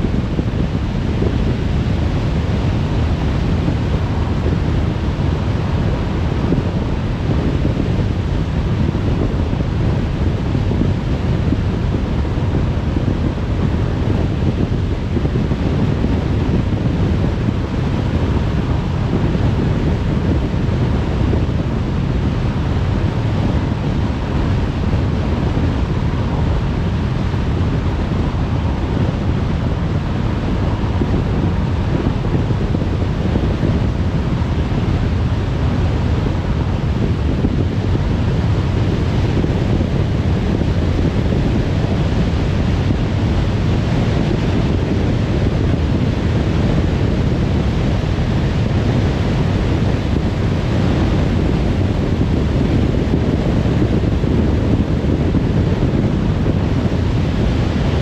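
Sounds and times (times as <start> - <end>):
car road noise rumble: 0.0 - 58.0.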